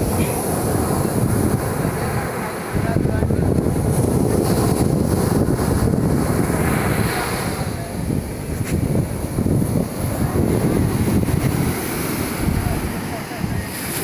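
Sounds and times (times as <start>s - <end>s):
surf breaking on sand: 0.0s - 14.0s
wind buffeting microphone: 0.0s - 14.0s.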